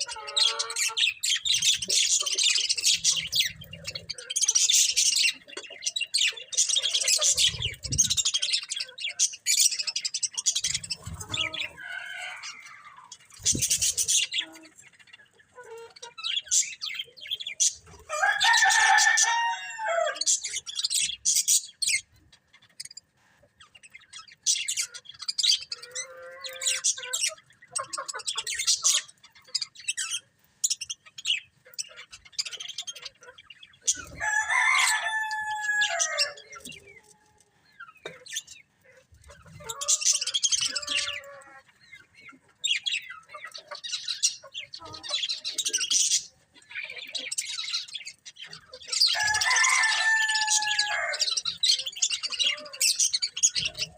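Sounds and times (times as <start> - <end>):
budgerigars chirping: 0.0 - 19.4, 23.7 - 37.0, 37.7 - 53.9.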